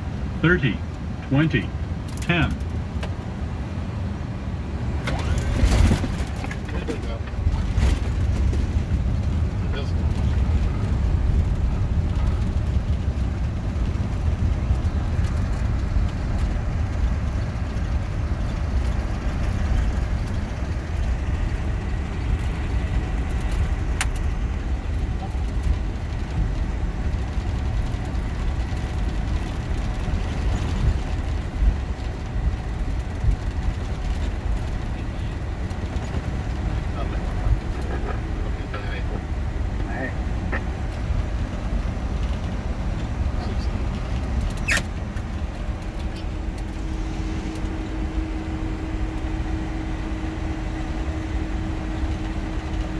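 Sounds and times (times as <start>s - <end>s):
airplane landing rumble: 0.0s - 52.9s.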